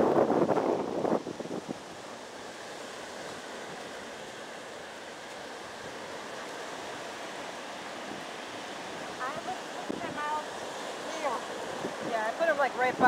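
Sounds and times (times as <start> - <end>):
ocean surf: 0.0 - 13.0.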